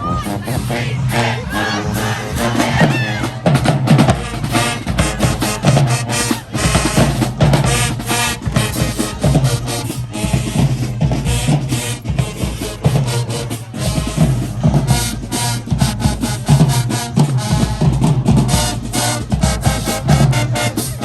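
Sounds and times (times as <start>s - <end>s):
marching band playing: 0.0s - 21.0s
snare and bass drums: 0.0s - 21.0s.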